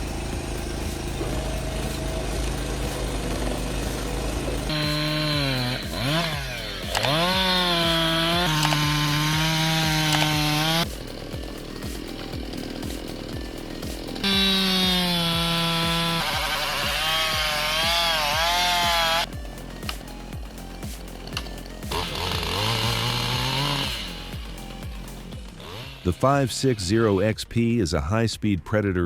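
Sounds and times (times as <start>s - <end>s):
chainsaw cutting wood: 0.0s - 27.2s.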